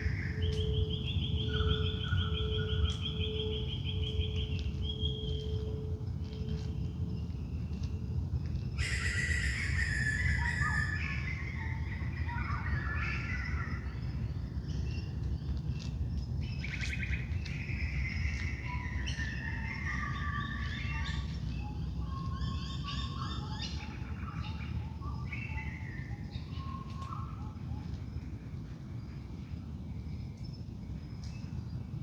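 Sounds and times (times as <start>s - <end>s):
birds singing and calling: 0.0s - 7.9s, 8.5s - 29.5s
low background rumble: 0.0s - 32.0s.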